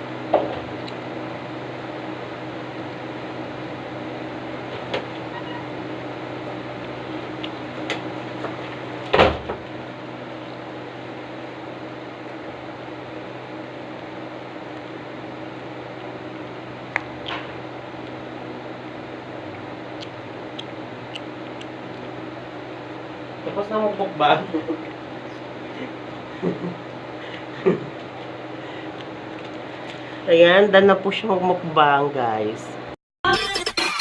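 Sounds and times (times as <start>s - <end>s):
appliance hum: 0.0s - 34.0s.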